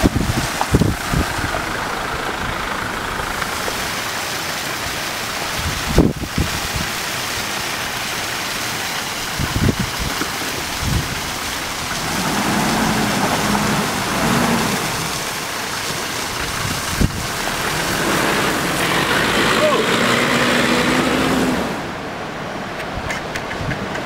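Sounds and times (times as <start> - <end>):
road and tyre noise: 0.0 - 24.0.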